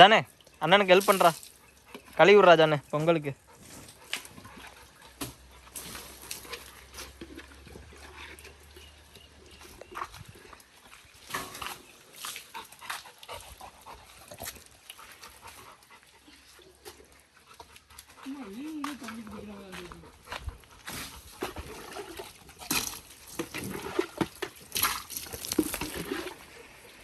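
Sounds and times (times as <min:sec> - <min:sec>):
dog wet scuffling noises: 0:00.8 - 0:27.0.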